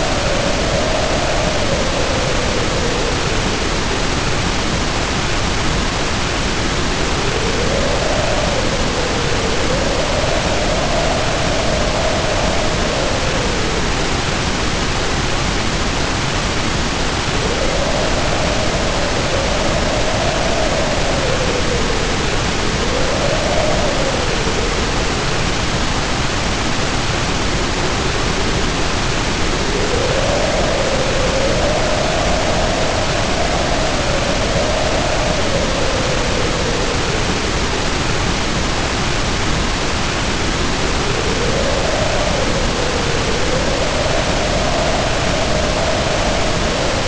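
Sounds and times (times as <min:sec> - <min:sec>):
heavy rain pouring: 0:00.0 - 0:47.0
howling wind: 0:00.0 - 0:47.0.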